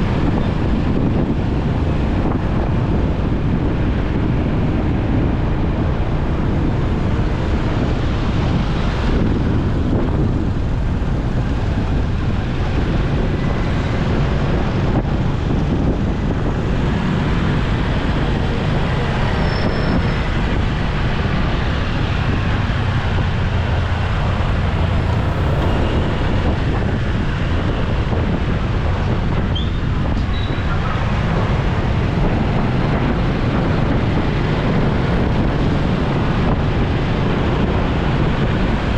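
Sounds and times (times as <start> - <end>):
road traffic: 0.0 - 38.9
wind rush on microphone: 0.0 - 38.9.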